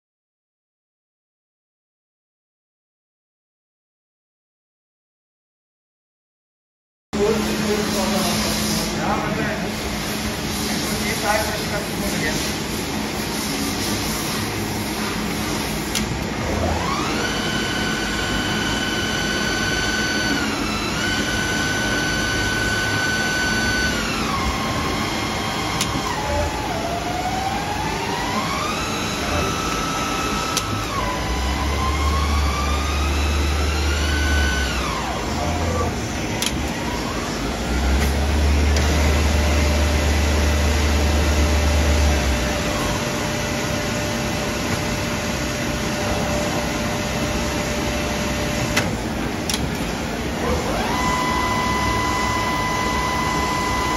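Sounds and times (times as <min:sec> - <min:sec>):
lathe drive whine: 0:07.2 - 0:53.9
steady machine hum: 0:07.2 - 0:53.9.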